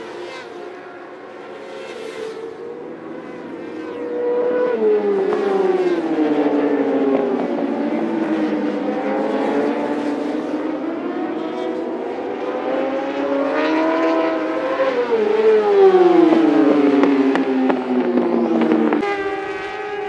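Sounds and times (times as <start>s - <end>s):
racing motorcycles revving: 0.0s - 20.0s.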